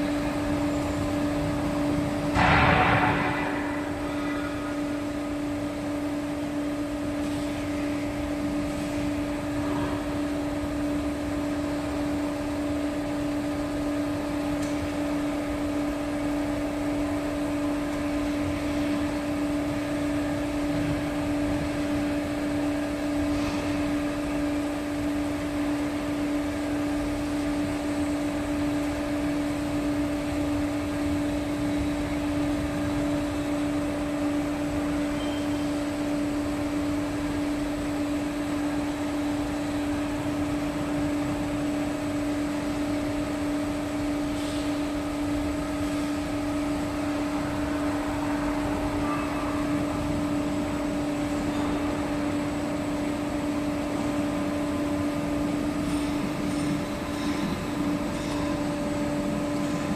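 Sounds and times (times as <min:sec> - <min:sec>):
hydraulic power unit hum-whine: 0:00.0 - 0:59.9.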